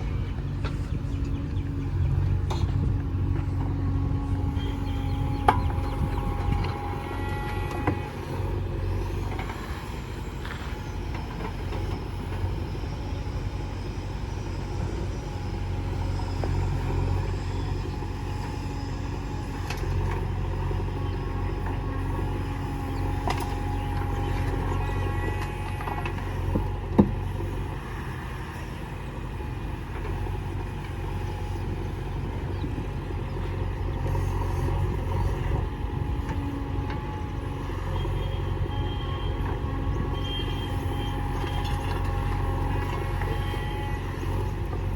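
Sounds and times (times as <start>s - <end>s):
heavy diesel machinery running: 0.0s - 44.9s.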